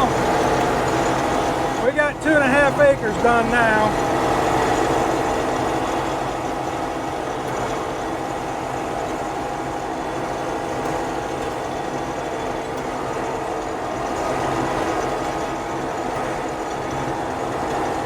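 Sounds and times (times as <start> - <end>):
combine harvester running: 0.0 - 18.0.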